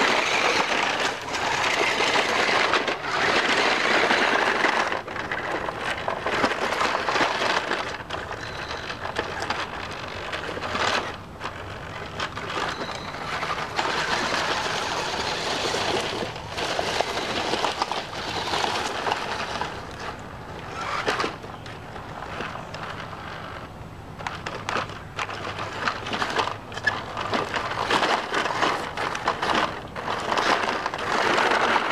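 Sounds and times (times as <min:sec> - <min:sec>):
toy car motor whirring: 0:00.0 - 0:21.4, 0:24.9 - 0:31.9.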